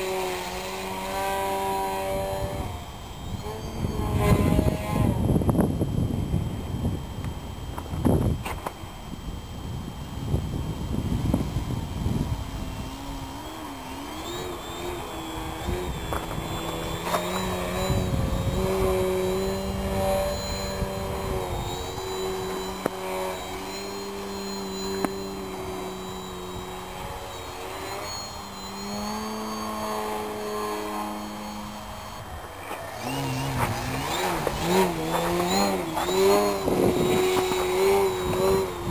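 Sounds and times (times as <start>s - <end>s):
model plane motor whining: 0.0s - 38.9s.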